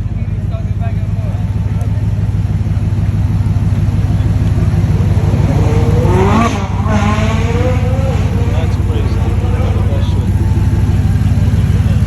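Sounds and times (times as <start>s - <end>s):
car engine deep pulsing exhaust: 0.0s - 12.0s
engine revving: 0.0s - 12.0s.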